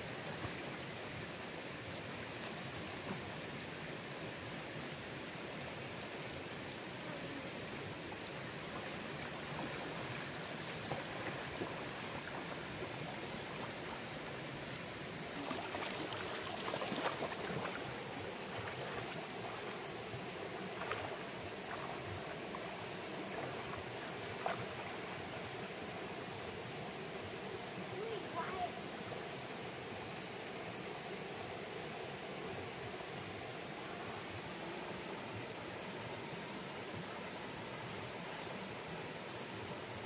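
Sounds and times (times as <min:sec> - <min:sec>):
flowing stream water: 0:00.0 - 0:40.0.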